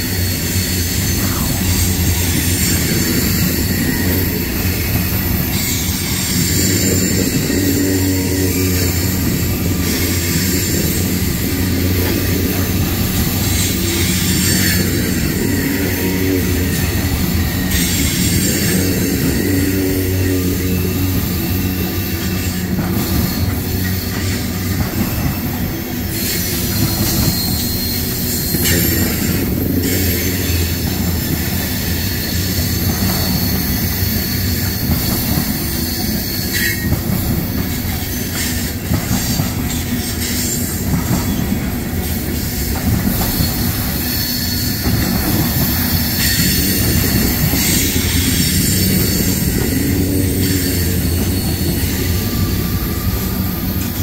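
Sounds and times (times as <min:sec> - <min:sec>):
high-pitched wheel squeal: 0:00.0 - 0:54.0
train wheels rumbling on rails: 0:00.0 - 0:54.0.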